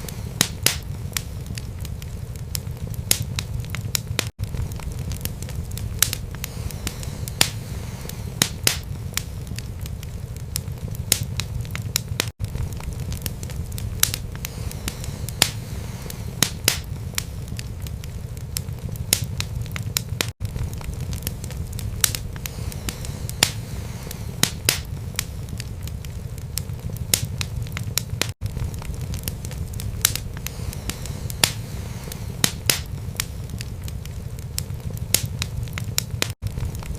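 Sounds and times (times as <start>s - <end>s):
low rumble of flames: 0.0s - 36.9s
wood fire crackling and popping: 0.0s - 36.9s.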